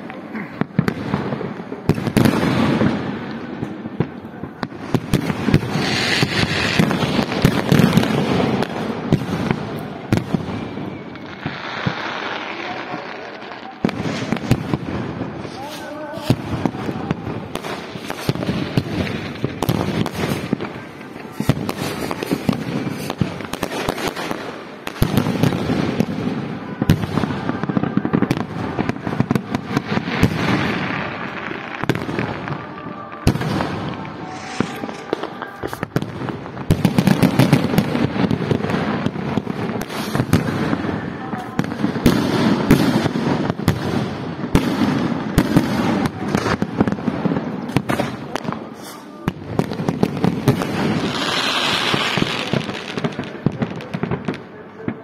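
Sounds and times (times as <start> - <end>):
firework crackles: 0.0 - 55.0
fireworks bursting: 0.0 - 55.0.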